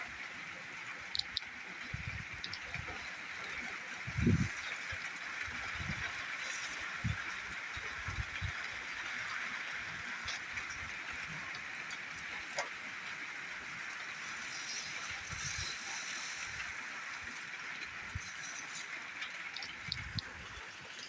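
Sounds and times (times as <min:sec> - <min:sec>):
rain hiss: 0:00.0 - 0:21.0
drips ticking: 0:00.1 - 0:21.0.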